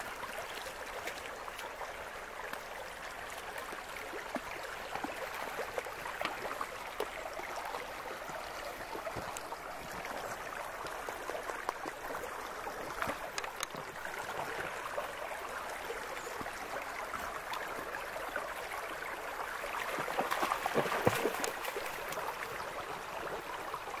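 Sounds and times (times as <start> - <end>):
stream babbling over stones: 0.0 - 24.0.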